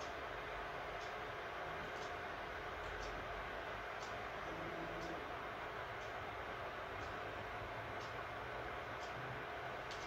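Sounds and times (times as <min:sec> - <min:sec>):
fan whir: 0:00.0 - 0:10.0.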